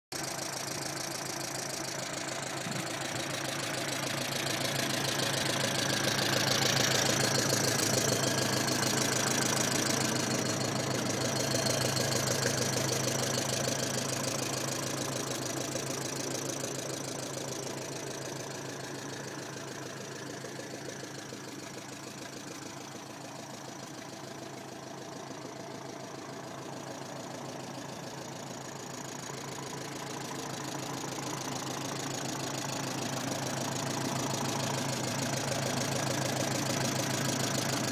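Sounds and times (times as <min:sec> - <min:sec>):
tractor engine running: 0:00.1 - 0:37.9.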